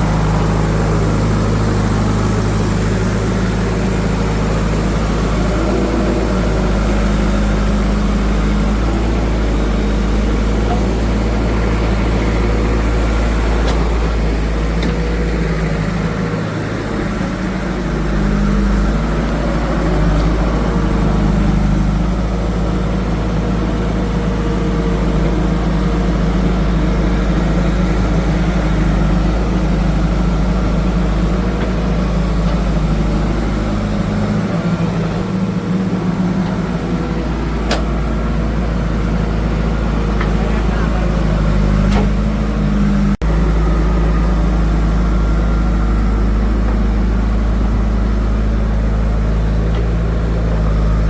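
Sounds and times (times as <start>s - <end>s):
heavy machinery diesel engine: 0.0s - 51.0s.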